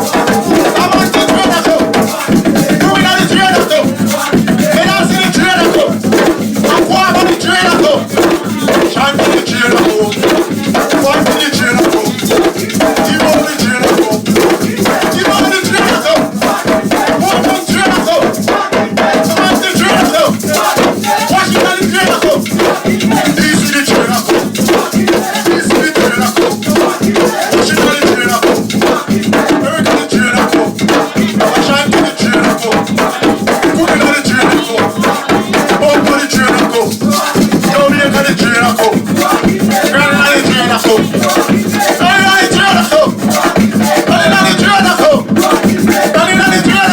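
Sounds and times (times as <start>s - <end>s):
group drumming: 0.0s - 46.9s
shaking rattle: 0.0s - 46.9s
voices: 0.0s - 46.9s.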